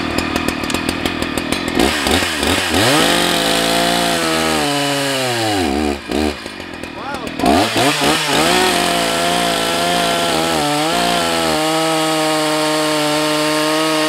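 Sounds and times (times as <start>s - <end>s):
chainsaw cutting through log: 0.0s - 14.0s.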